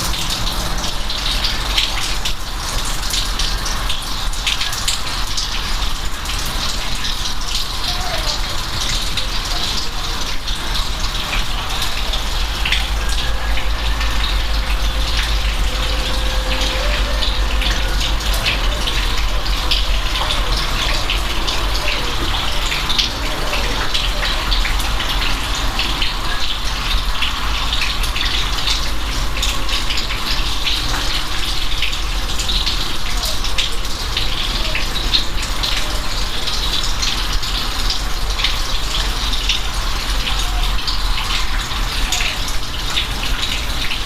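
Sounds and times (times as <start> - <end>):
rain hiss: 0.0 - 44.0
raindrop ticks and splashes: 0.0 - 44.0.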